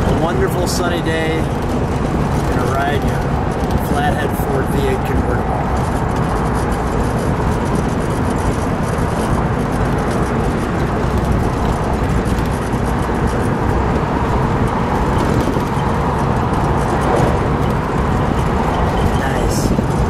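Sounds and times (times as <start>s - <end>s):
car engine running smoothly: 0.0s - 20.0s
wind and road noise: 0.0s - 20.0s.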